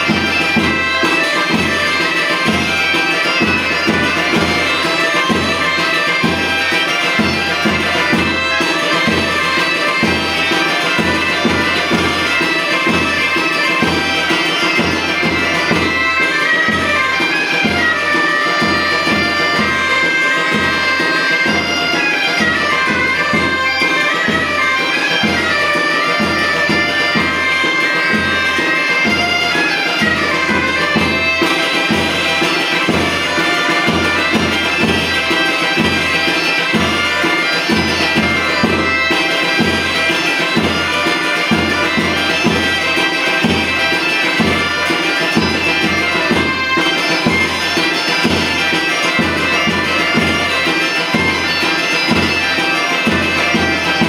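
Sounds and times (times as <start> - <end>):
bagpipe melody over drone: 0.0 - 54.0
steady drum beat: 0.0 - 54.0.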